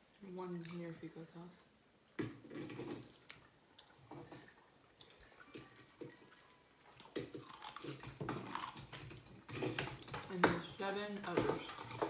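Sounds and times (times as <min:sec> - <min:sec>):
chewing and wet squishing: 0:00.0 - 0:01.1, 0:02.1 - 0:12.0.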